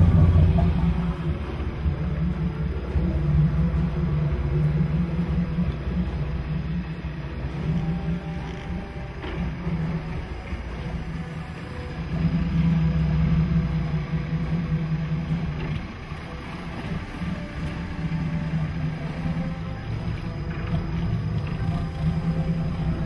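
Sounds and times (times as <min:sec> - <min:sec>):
boat engine idling: 0:00.0 - 0:23.0.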